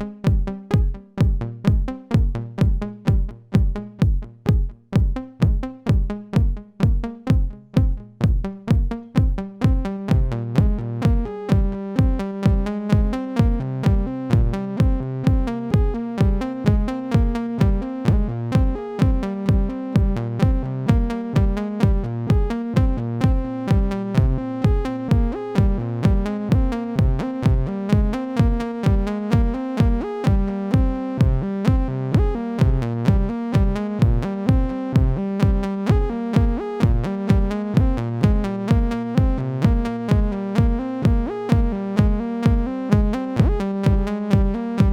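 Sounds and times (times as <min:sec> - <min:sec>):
electronic kick-like pulse: 0:00.0 - 0:44.9.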